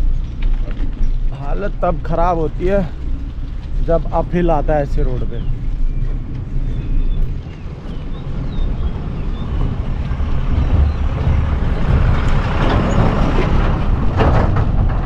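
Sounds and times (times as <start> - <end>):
diesel truck engine rumble: 0.0 - 15.0
road noise: 0.0 - 15.0.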